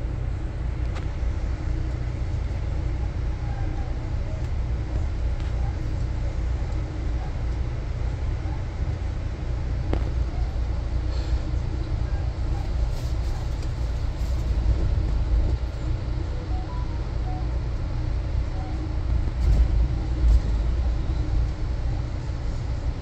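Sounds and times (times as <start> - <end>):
train rumble from inside coach: 0.0 - 23.0.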